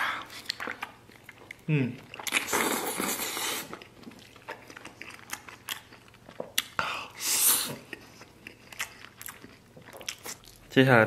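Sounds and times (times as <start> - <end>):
wet chewing and lip smacks: 0.2 - 6.8, 7.8 - 10.6.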